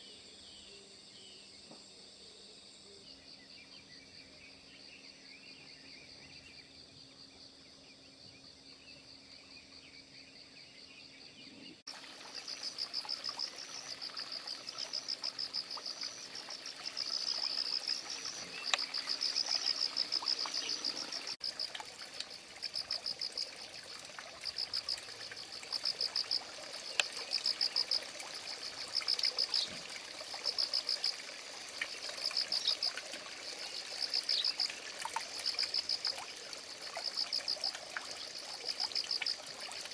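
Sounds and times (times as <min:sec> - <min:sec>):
insects chirping in trills: 0:00.0 - 0:39.9.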